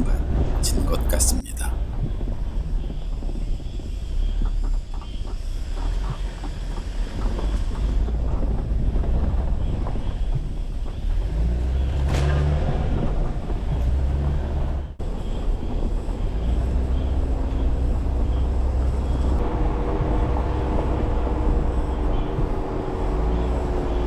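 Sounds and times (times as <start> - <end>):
engine and drivetrain rumble: 0.0 - 24.0
tyre and road noise: 0.0 - 24.0.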